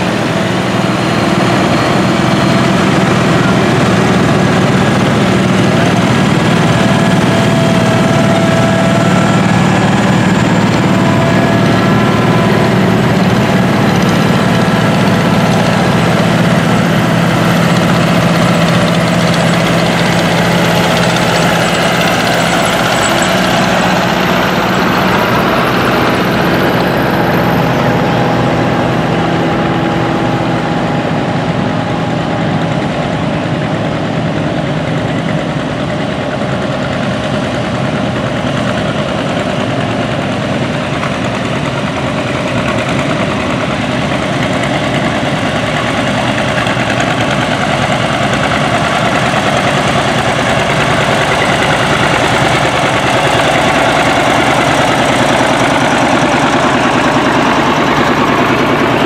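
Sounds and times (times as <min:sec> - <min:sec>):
tractor engines running: 0:00.0 - 0:59.0.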